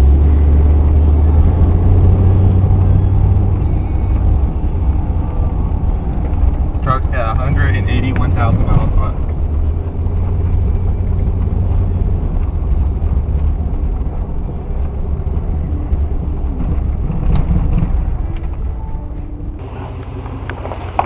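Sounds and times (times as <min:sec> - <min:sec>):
deep engine exhaust note: 0:00.0 - 0:21.0.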